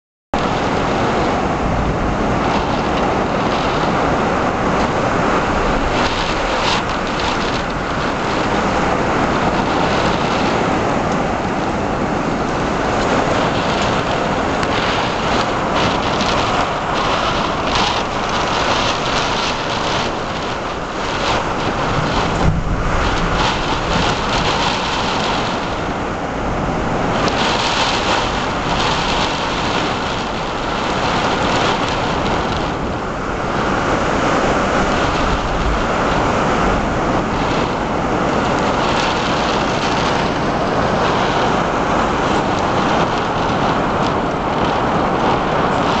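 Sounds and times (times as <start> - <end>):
heavy wind-driven rain: 0.3 - 46.0.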